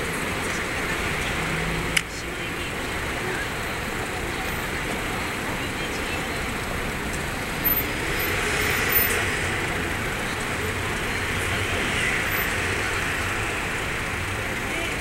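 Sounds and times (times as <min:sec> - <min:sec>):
street traffic passing cars: 0:00.0 - 0:15.0.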